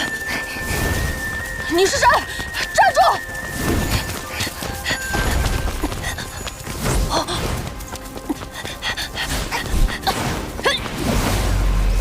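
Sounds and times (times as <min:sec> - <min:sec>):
action background music: 0:00.0 - 0:12.0.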